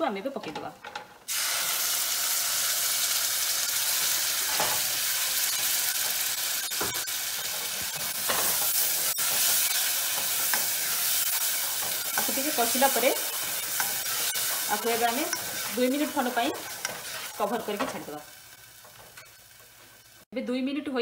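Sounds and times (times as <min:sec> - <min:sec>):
paste sizzling in hot oil: 0:01.3 - 0:20.3.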